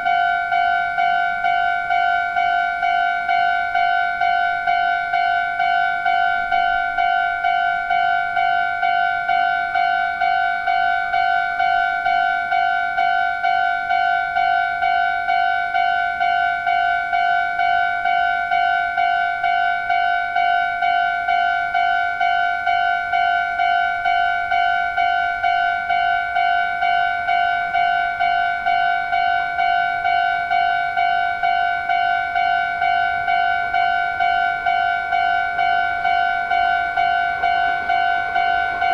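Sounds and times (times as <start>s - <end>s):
level crossing alarm ringing: 0.0s - 38.9s.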